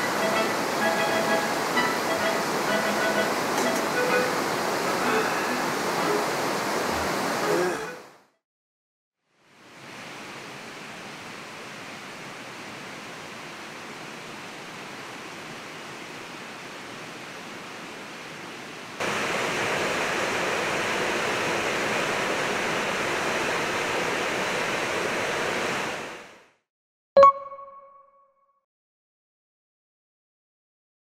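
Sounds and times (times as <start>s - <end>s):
stream rushing over rapids: 0.0s - 8.2s, 9.4s - 26.5s.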